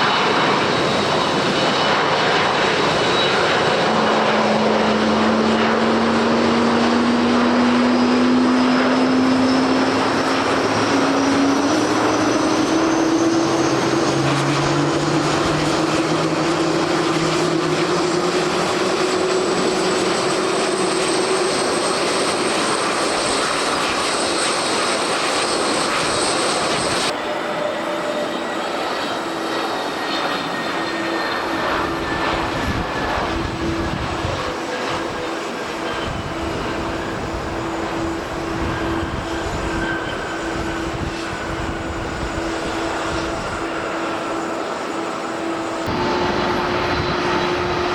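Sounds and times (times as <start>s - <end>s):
jet engines running up: 0.0s - 47.9s
wind noise: 0.0s - 47.9s.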